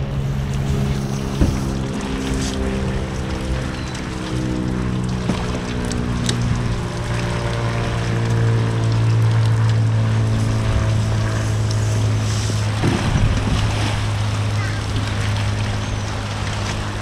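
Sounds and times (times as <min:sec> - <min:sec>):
engine running at low pitch: 0:00.0 - 0:17.0
water noise: 0:00.0 - 0:17.0
wind: 0:00.0 - 0:17.0.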